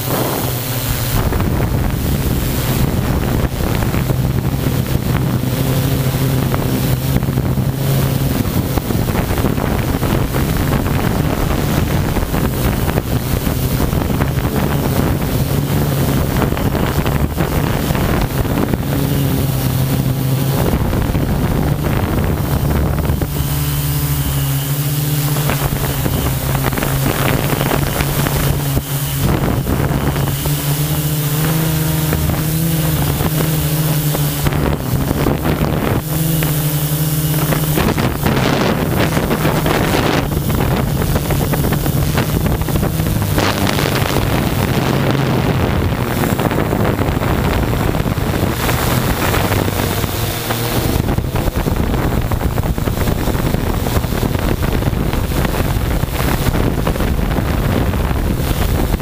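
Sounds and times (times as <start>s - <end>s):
drone motors humming: 0.0s - 59.0s
wind buffeting microphone: 0.0s - 59.0s.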